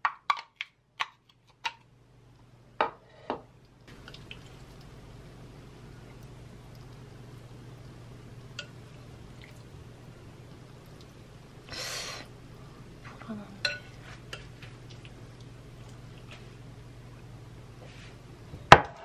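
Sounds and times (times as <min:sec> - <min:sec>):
steady low hum: 0:00.8 - 0:19.0.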